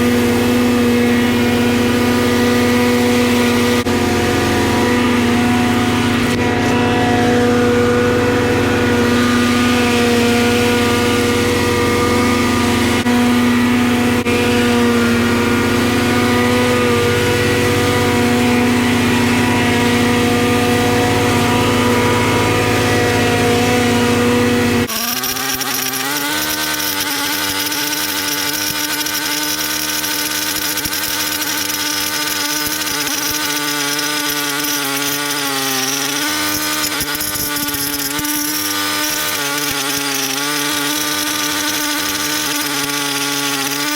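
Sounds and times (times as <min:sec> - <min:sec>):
engine with wavering pitch: 0:00.0 - 0:43.9
lawn mower engine running: 0:00.0 - 0:43.9.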